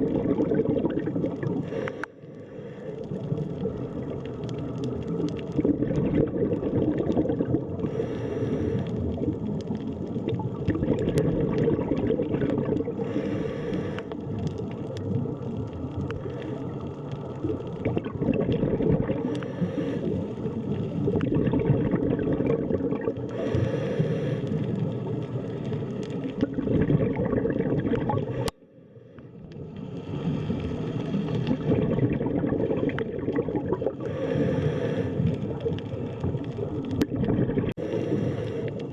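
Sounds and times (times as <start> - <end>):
muffled underwater water rush: 0.0 - 38.9
hissing water swell: 0.9 - 17.9, 19.0 - 21.2, 22.9 - 26.6, 27.3 - 37.0, 37.8 - 38.9.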